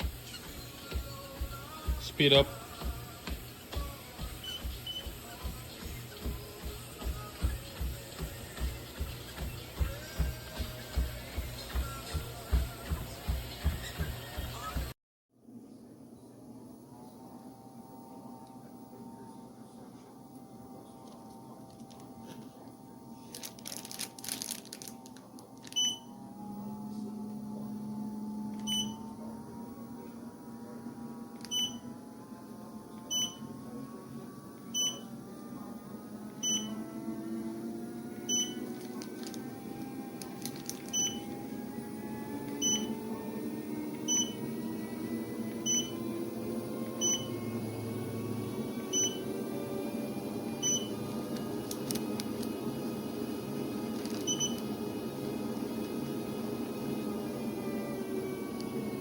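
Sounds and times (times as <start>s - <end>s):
treadmill motor whine: 0.0s - 15.0s, 16.4s - 59.0s.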